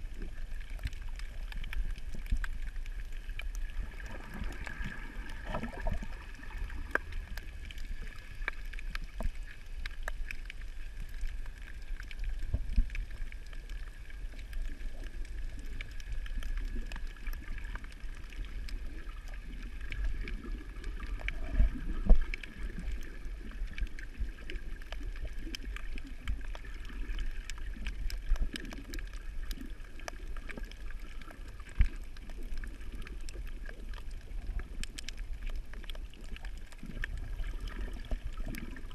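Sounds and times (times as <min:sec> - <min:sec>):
faint clicks and crackles: 0:00.0 - 0:38.9
underwater rumble of moving water: 0:00.0 - 0:38.9.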